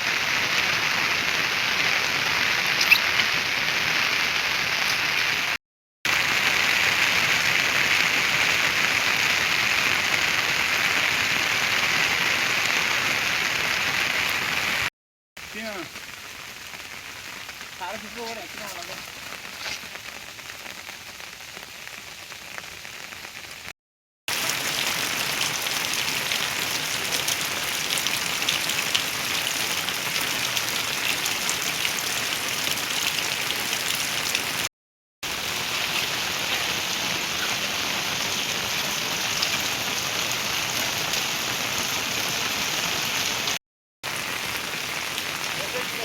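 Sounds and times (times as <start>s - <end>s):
heavy rain falling: 0.0s - 23.7s, 24.3s - 46.0s.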